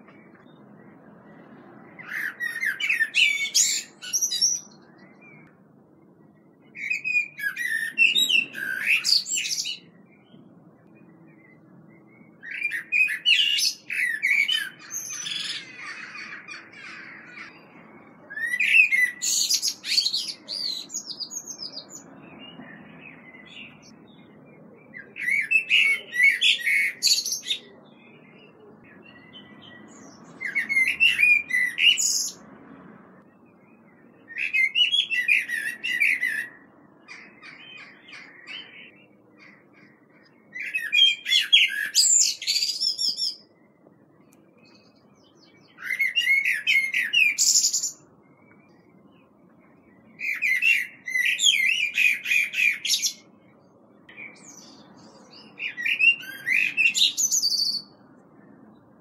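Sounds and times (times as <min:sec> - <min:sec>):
robin singing: 0:00.0 - 0:59.0.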